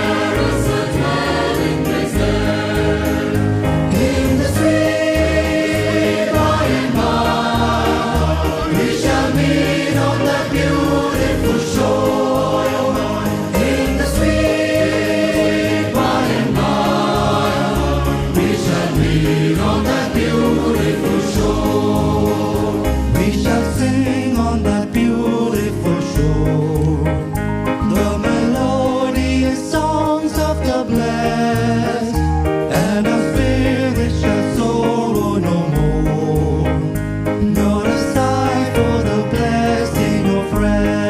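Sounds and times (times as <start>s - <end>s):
choir singing a hymn: 0.0s - 26.9s, 27.8s - 29.8s, 30.6s - 41.0s
steady bass line: 0.0s - 41.0s.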